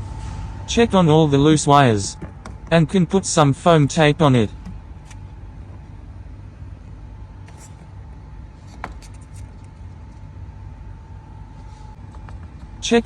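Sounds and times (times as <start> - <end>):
faint steady hum: 0.0 - 13.0
steady low rumble: 0.0 - 13.0.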